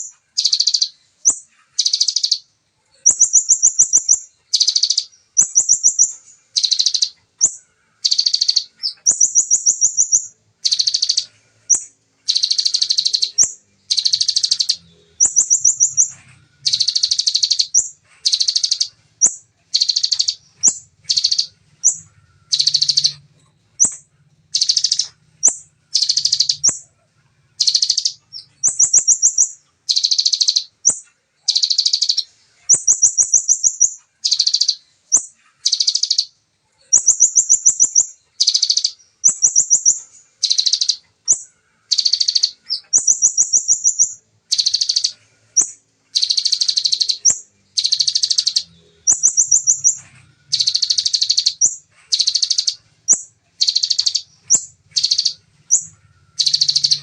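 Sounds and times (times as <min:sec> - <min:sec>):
bird singing high bursts: 0:00.0 - 0:23.2, 0:23.8 - 0:26.8, 0:27.6 - 0:57.0.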